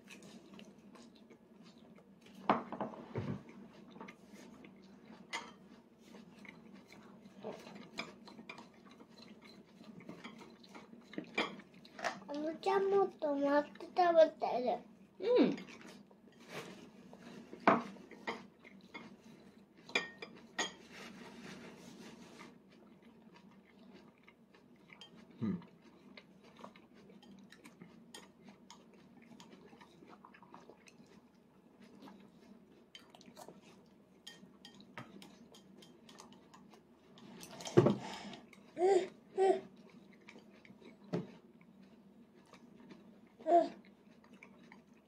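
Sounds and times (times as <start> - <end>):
chewing: 0.0 - 14.0, 15.5 - 45.0.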